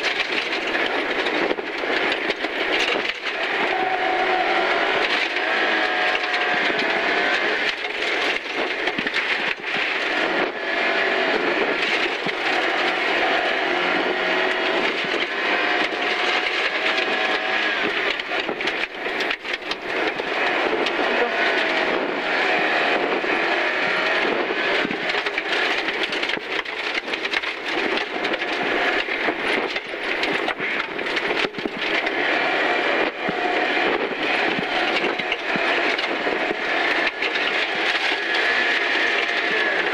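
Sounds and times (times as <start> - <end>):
gravel knocking underside: 0.0 - 39.9
rally car engine at high revs: 0.0 - 39.9
tyre and road noise: 0.0 - 39.9.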